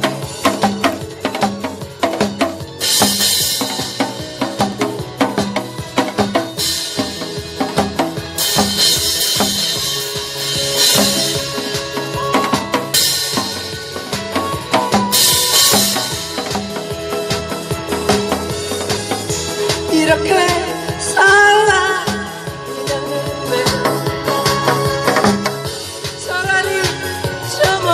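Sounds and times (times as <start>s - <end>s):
backing music track: 0.0s - 27.9s.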